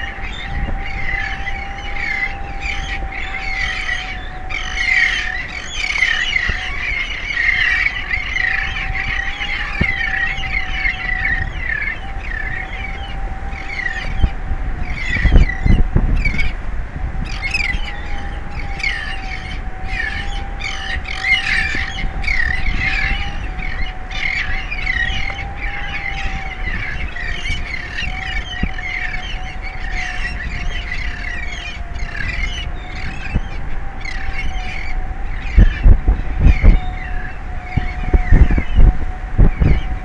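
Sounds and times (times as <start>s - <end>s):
faint wavering tone: 0.0s - 40.0s
flock of birds calling: 0.0s - 40.0s
wind rumble on microphone: 0.0s - 40.0s.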